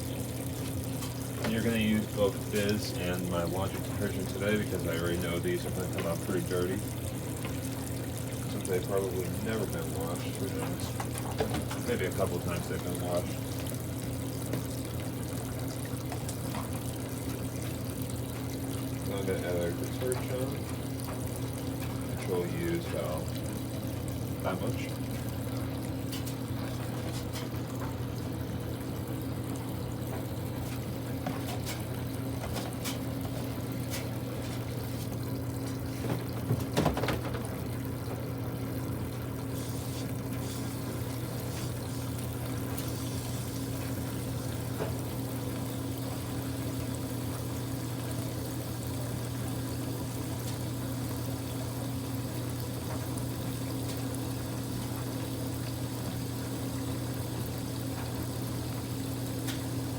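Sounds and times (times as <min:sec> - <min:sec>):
steady hum: 0:00.0 - 0:59.9
water pouring into a tub: 0:00.0 - 0:59.9.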